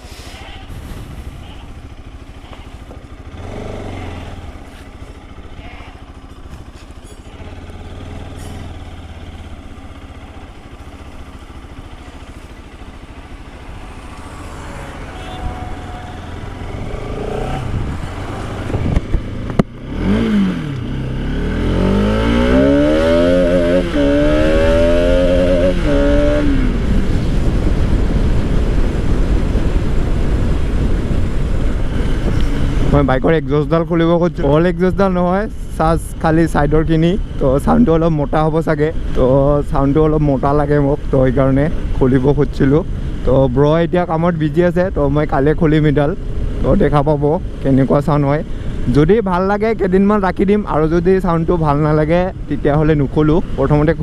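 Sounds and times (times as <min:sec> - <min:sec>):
motorcycle engine accelerating: 0:00.6 - 0:35.4, 0:36.3 - 0:42.2, 0:45.0 - 0:48.0.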